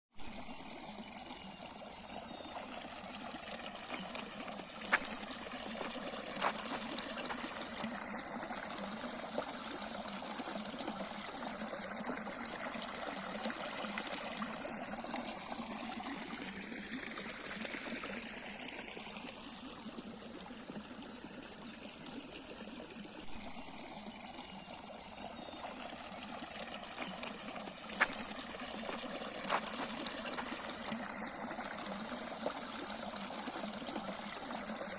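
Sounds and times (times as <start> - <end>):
river water flowing: 0.3 - 34.9.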